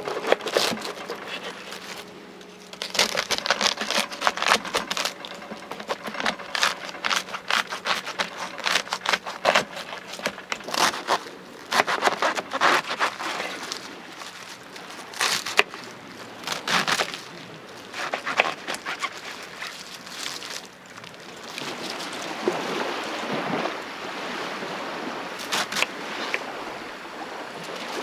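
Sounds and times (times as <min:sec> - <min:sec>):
knife crunching through cabbage: 0:00.0 - 0:22.3, 0:25.4 - 0:26.4.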